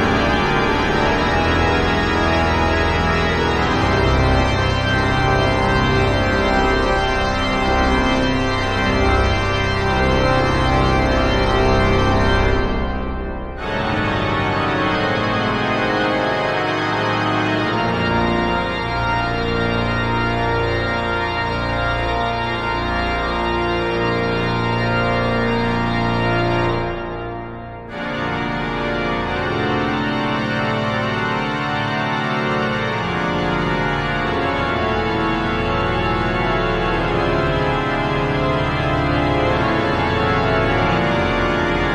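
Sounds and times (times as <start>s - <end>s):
pipe organ playing chords: 0.0s - 41.9s.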